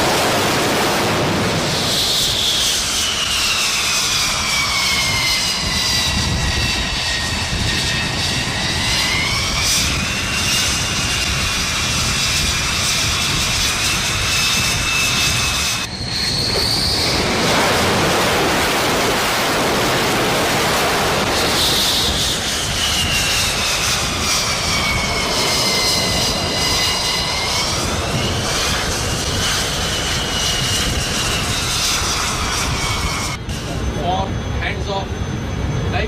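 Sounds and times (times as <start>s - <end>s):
high turbine whine: 0.0s - 36.0s
jet engine roaring: 0.0s - 36.0s.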